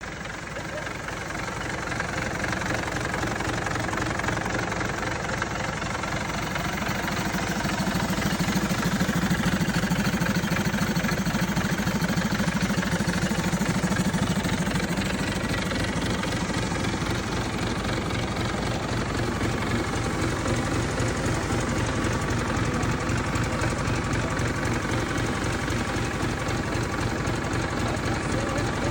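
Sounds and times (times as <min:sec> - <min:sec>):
diesel truck engine idling: 0:00.0 - 0:28.9.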